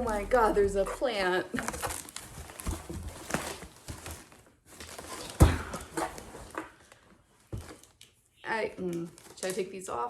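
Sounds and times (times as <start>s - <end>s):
plastic packaging rustling: 0.0s - 10.0s.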